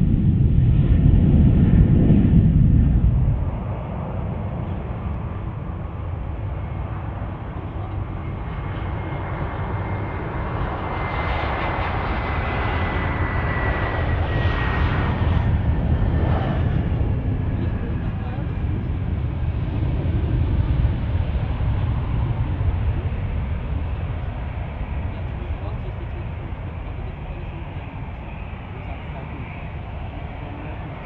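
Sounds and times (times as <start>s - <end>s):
jet engines on approach: 0.0s - 31.0s.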